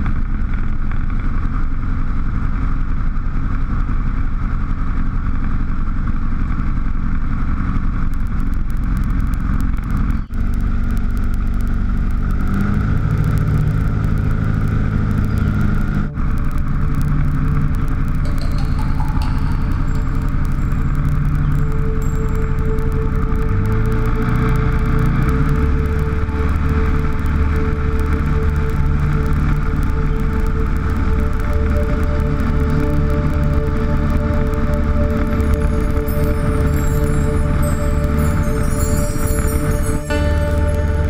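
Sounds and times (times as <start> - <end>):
propeller plane engine in cabin: 0.0 - 38.5.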